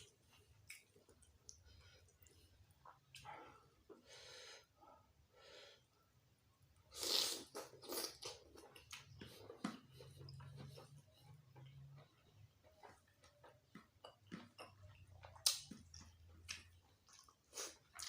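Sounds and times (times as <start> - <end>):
person chewing food: 0.0 - 4.0, 7.0 - 18.0.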